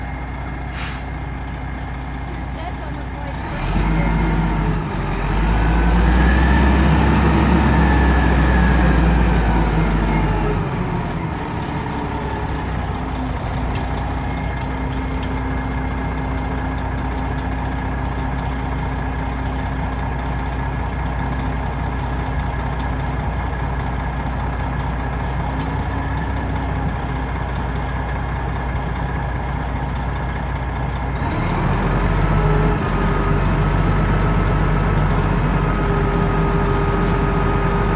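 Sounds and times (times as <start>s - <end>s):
heavy diesel engine running: 0.0s - 37.9s.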